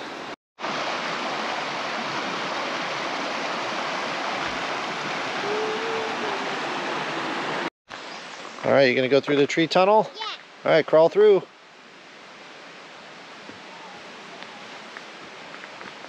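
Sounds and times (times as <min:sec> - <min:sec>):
creek water rushing over stones: 0:00.0 - 0:16.0.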